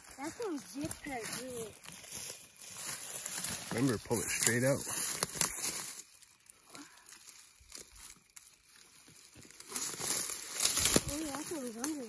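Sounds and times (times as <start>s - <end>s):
dry leaves and twigs crunching: 0.0s - 12.0s.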